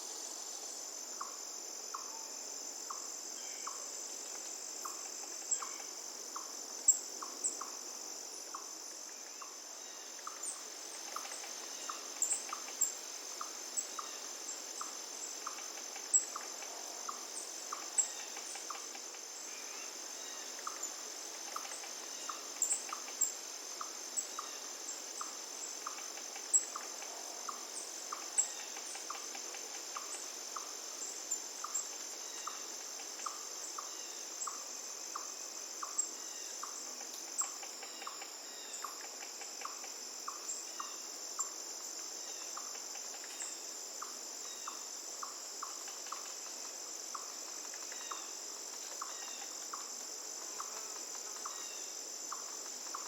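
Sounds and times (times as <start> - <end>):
high-pitched insect trill: 0.0 - 53.0.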